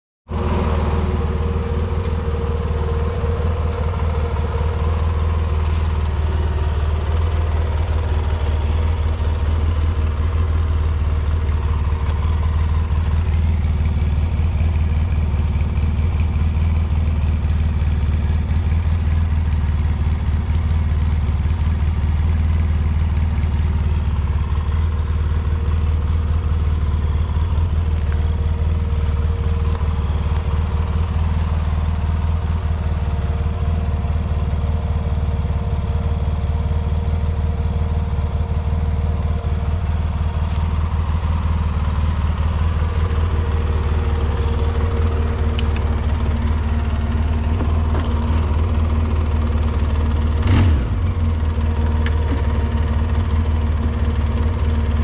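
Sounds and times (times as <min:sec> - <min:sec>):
atv engine idling: 0:00.3 - 0:55.0.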